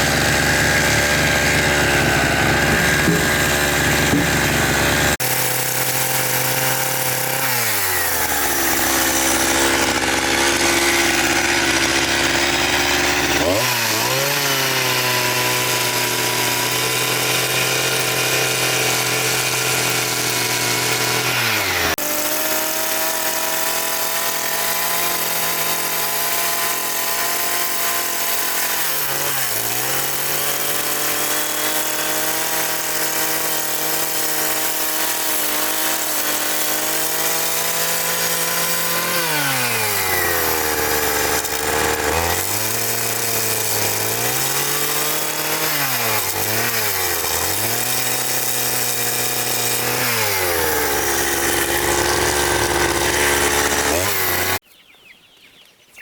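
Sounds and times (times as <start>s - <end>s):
small engine tool running: 0.0s - 54.6s.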